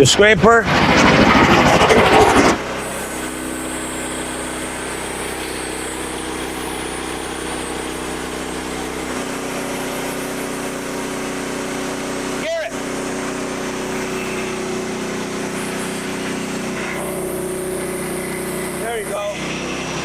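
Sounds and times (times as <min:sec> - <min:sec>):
bandsaw sawmill engine running: 0:00.0 - 0:20.0.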